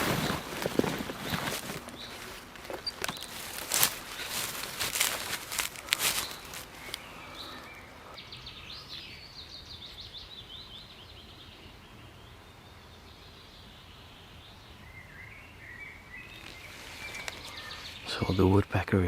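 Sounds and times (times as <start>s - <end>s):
songbird singing: 0.0s - 19.0s
soft bird chirps: 0.1s - 18.7s.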